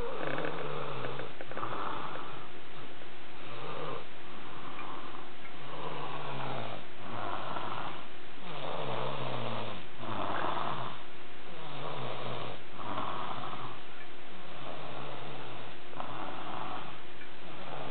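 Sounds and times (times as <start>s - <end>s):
loud rasping snoring: 0.0s - 2.5s, 3.4s - 13.8s, 14.4s - 17.9s.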